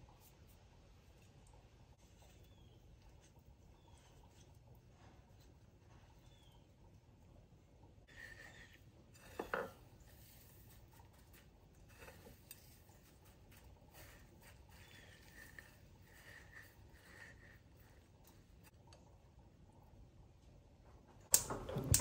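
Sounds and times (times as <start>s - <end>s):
faint food handling sounds: 0.0s - 19.9s.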